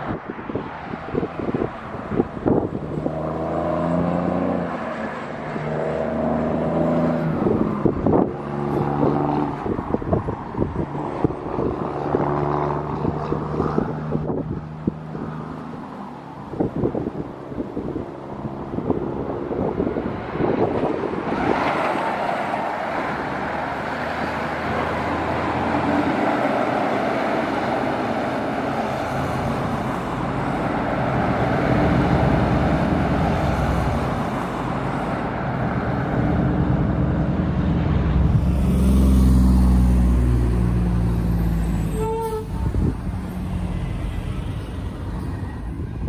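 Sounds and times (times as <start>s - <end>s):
diesel engine drone: 0.0s - 46.0s
road traffic: 0.0s - 46.0s.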